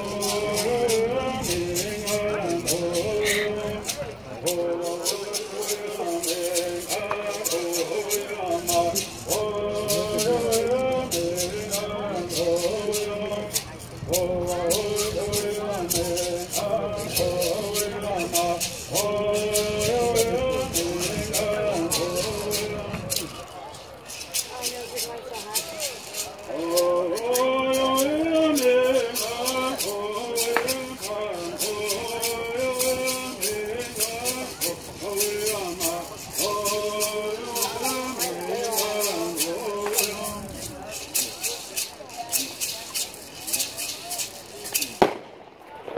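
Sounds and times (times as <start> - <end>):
men singing: 0.0 - 23.6, 26.0 - 41.6
gourd rattles shaking: 0.0 - 45.2.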